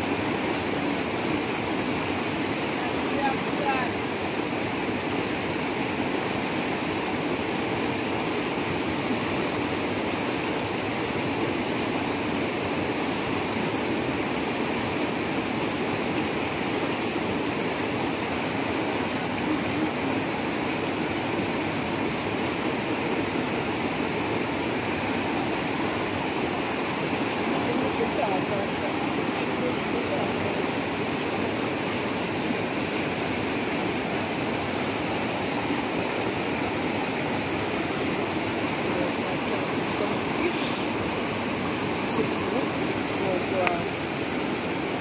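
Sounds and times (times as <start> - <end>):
river rushing over rocks: 0.0 - 45.0.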